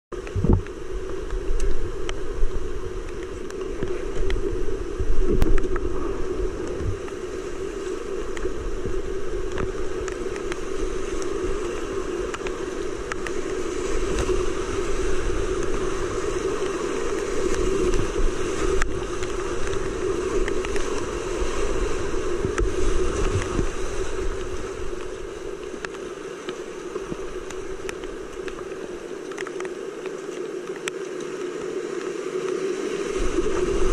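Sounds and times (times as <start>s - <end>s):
water splashing around kayak: 0.1s - 33.9s
rapids rushing: 0.2s - 33.9s.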